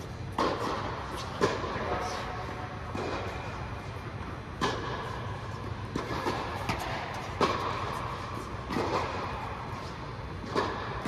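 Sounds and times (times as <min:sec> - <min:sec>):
tennis ball struck by rackets: 0:00.0 - 0:01.8, 0:02.8 - 0:03.6, 0:04.3 - 0:11.0
steady low hum: 0:00.0 - 0:11.0.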